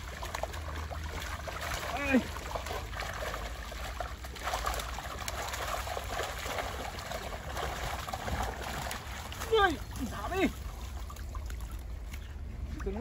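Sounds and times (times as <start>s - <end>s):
river water running over stones: 0.0s - 13.0s.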